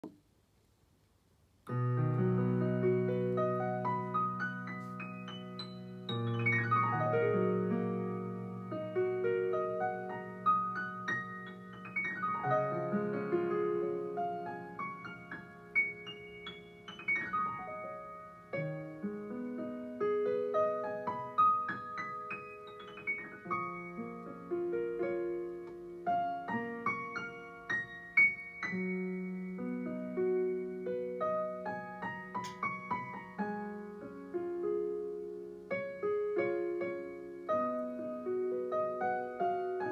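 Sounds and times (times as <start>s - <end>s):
solo piano: 1.6s - 39.9s.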